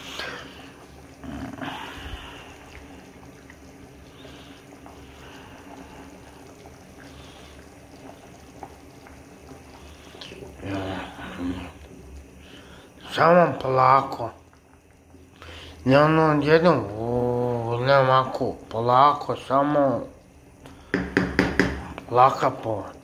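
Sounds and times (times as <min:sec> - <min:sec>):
stew bubbling in a pot: 0:00.0 - 0:23.0.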